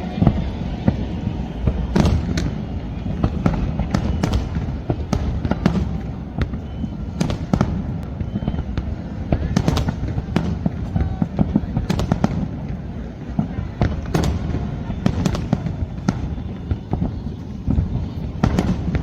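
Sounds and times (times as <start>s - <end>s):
fireworks cracking and banging: 0.0s - 19.0s.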